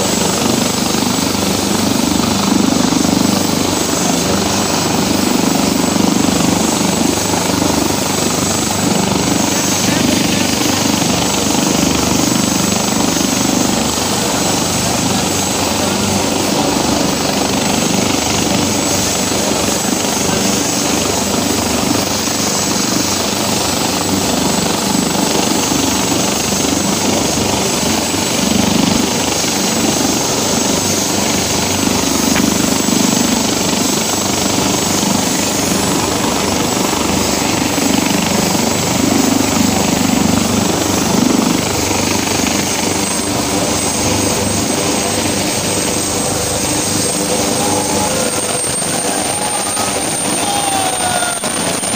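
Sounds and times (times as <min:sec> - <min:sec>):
helicopter rotor and engine rush: 0:00.0 - 0:51.9
high turbine whine: 0:00.0 - 0:51.9.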